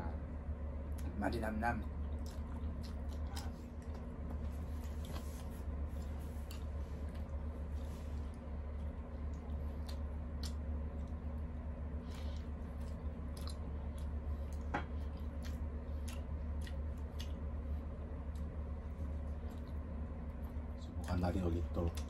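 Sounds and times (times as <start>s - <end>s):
steady low hum: 0.0s - 22.0s
person chewing food: 1.9s - 21.0s.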